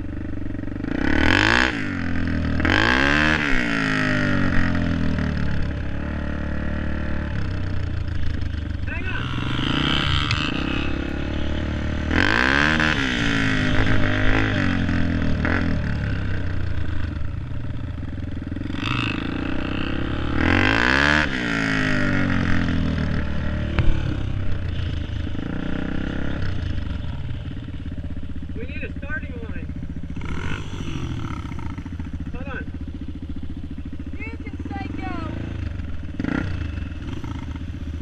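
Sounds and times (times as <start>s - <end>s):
dirt bike engine idling: 0.0s - 38.0s
dirt bike engine revving: 0.0s - 38.0s.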